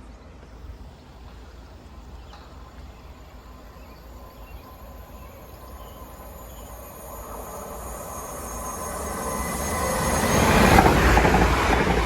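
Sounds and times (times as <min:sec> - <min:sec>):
distant train rumble: 0:00.0 - 0:12.0
thin train whine: 0:00.0 - 0:12.0.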